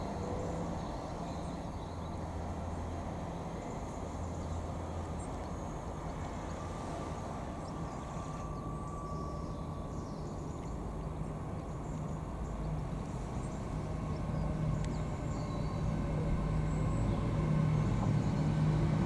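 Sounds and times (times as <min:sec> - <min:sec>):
diesel train engine humming: 0:00.0 - 0:19.0.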